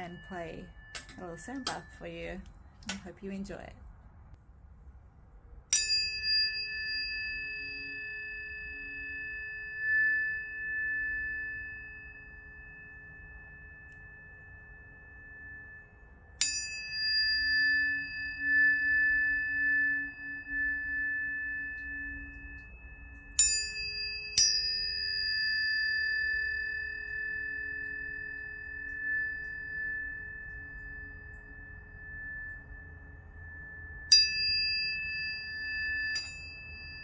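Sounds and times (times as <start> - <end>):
tuning fork ringing: 0.0 - 3.2, 5.7 - 37.0.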